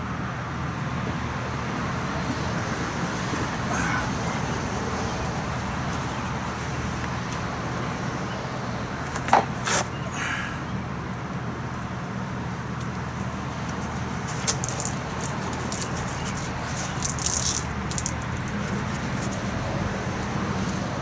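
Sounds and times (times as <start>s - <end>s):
distant road traffic: 0.0s - 21.0s.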